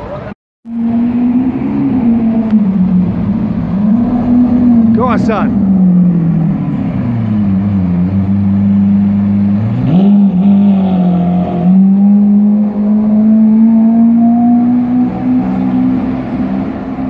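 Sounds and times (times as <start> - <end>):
sports car engine accelerating: 0.1 - 17.0.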